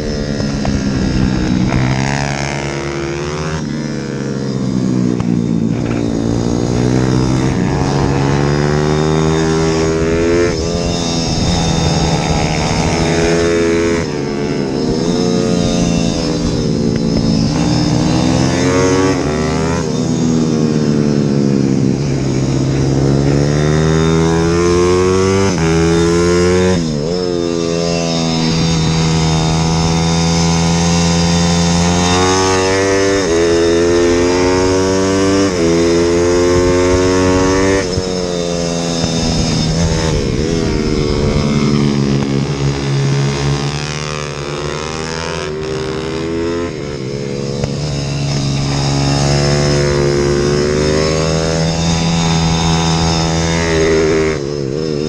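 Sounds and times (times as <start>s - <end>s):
motorbike engine at full throttle: 0.0s - 55.0s.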